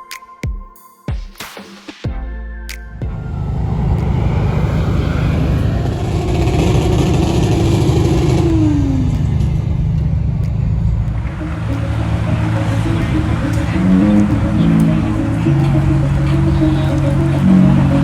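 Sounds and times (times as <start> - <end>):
road noise: 2.9 - 18.0
truck engine accelerating: 2.9 - 18.0.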